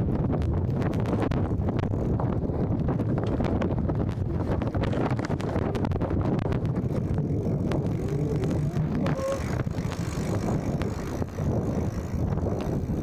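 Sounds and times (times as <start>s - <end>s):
muffled wind buffeting: 0.0s - 13.0s.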